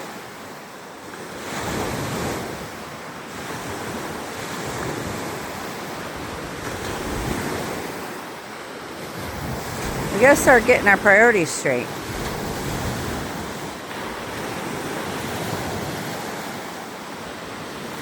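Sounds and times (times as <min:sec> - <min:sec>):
waves washing in: 0:00.0 - 0:18.0.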